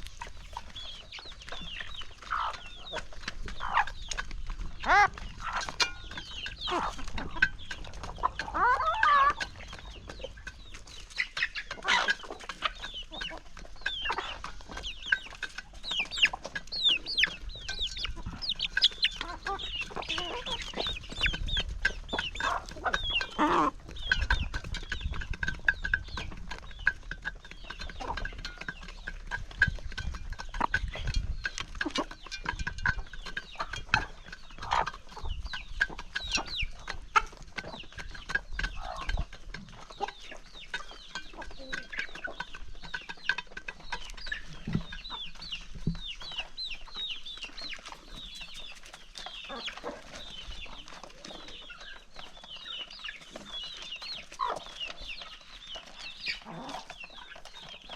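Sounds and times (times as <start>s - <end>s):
chickens clucking: 0.0s - 57.9s.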